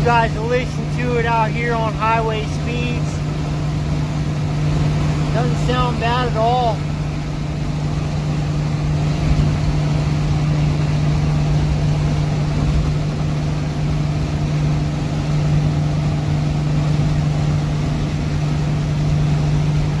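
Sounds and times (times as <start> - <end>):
diesel truck engine drone: 0.0 - 20.0
road rumble: 0.0 - 20.0.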